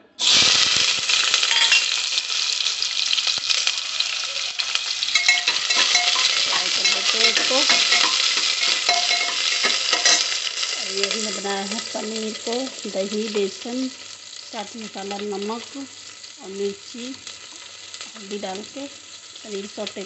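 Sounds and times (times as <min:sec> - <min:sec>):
onions sizzling in hot oil: 0:00.0 - 0:20.0
spoon stirring onions: 0:01.3 - 0:16.6, 0:17.2 - 0:20.0.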